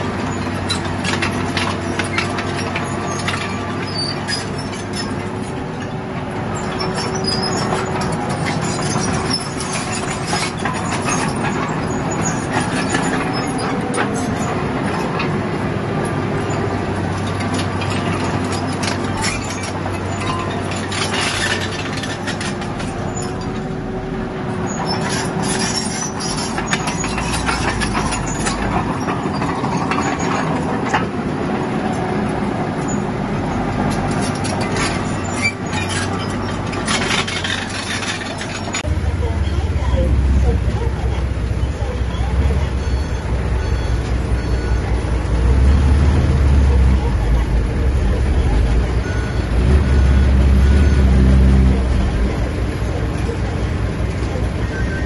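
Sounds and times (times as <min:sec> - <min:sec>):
metallic clanks and scraping: 0:00.0 - 0:23.9, 0:24.6 - 0:55.0
bulldozer diesel engine running: 0:00.0 - 0:55.0.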